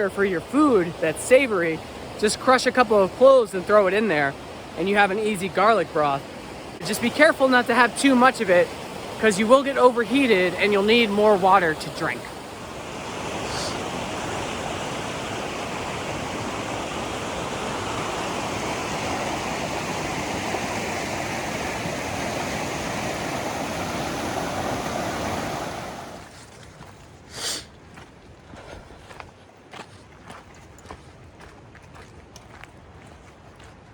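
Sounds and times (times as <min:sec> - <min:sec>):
creek water rushing: 0:00.0 - 0:33.9.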